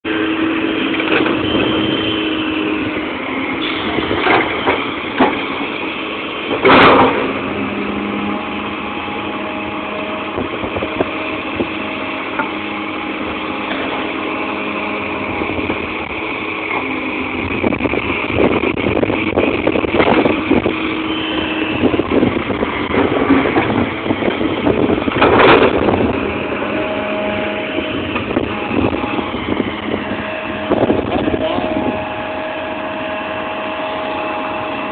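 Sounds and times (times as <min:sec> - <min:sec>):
excavator diesel engine under load: 0:00.0 - 0:34.9.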